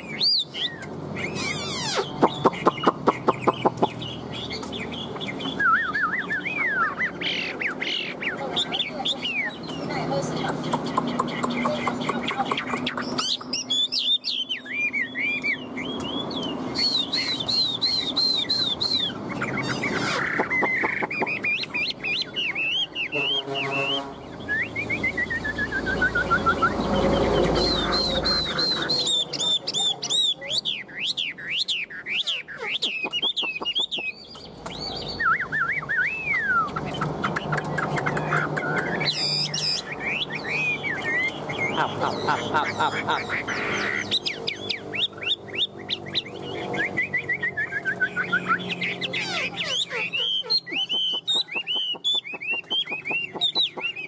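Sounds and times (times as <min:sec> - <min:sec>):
songbird singing whistled trills: 0:00.0 - 0:42.2, 0:44.0 - 0:54.0.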